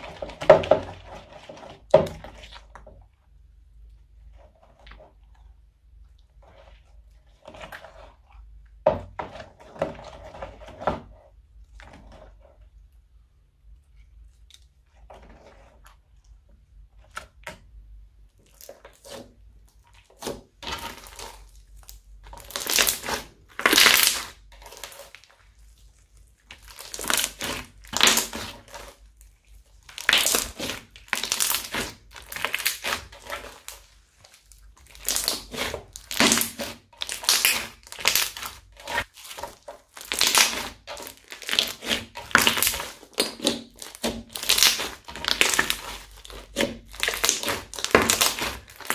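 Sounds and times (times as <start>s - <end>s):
crunchy slime squishing by hand: 0.0s - 48.9s.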